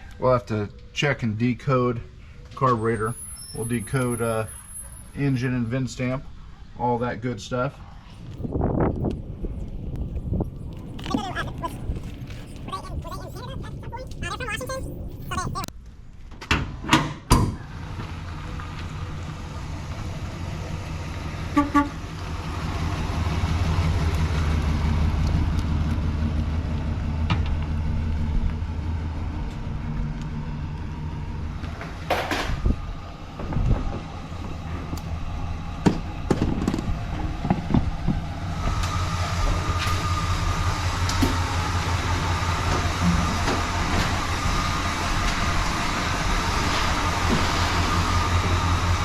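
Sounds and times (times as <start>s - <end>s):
engine humming: 7.7s - 16.4s, 17.5s - 49.0s.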